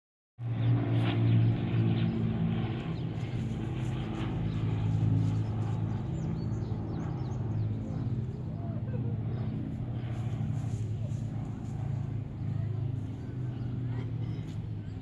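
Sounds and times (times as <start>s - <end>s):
engine drone: 0.4s - 15.0s.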